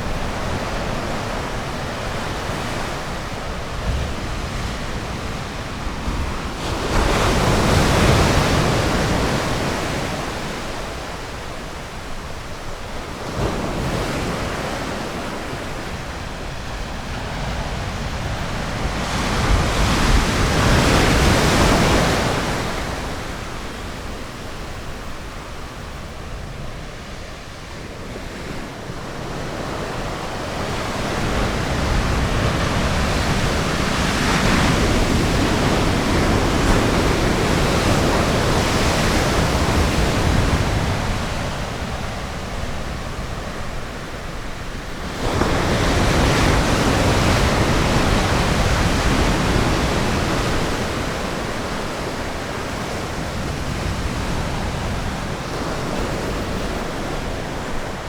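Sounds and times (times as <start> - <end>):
ocean surf washing up shore: 0.0 - 58.0.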